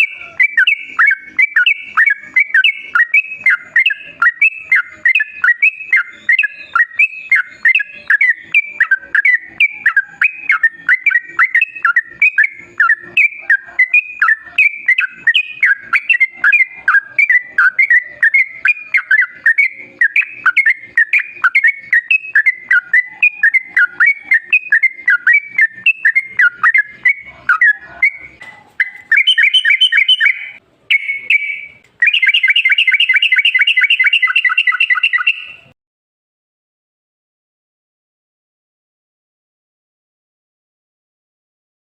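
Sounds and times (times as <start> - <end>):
bulbul singing rapid notes: 0.0 - 35.7
harsh buzzy chattering calls: 0.0 - 35.7.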